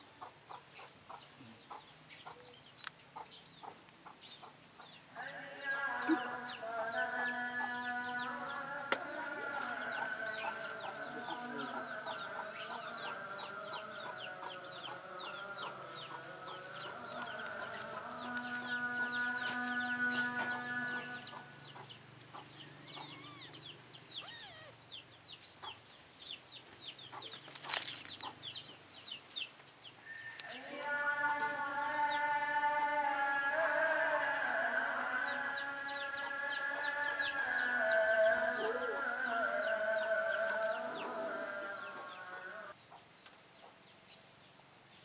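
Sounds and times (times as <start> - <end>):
chicks peeping: 0.1 - 43.8.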